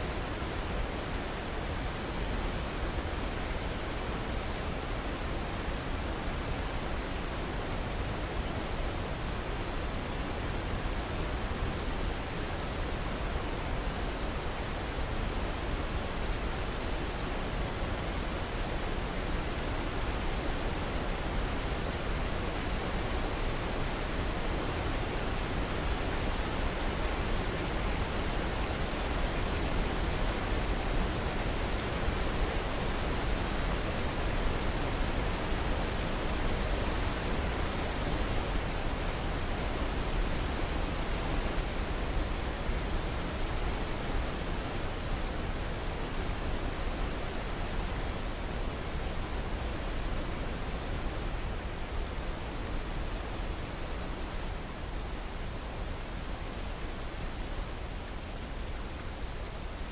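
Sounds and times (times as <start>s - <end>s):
river rushing over boulders: 0.0s - 59.9s.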